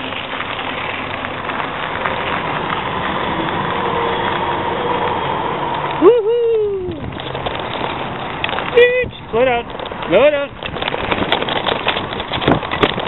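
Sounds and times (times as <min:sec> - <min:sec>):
bicycle tyres crunching on gravel: 0:00.0 - 0:13.0.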